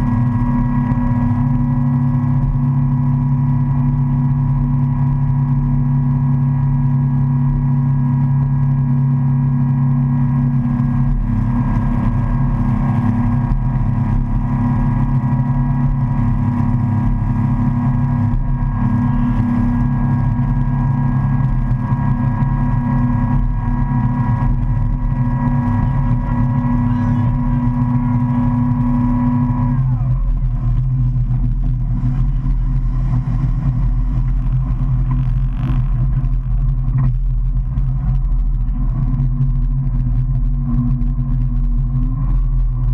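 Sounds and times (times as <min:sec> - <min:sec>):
motorboat engine running: 0:00.0 - 0:42.9
water rushing from wake: 0:00.0 - 0:42.9.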